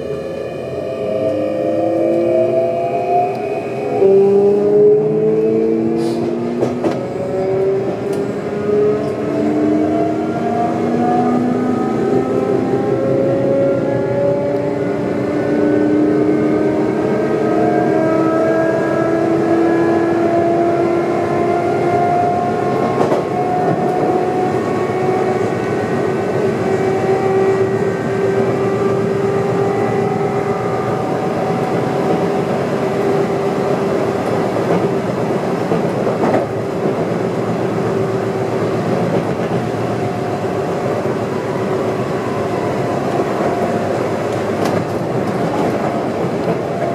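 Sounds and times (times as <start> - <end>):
wheels rumbling on rails: 0.0 - 46.9.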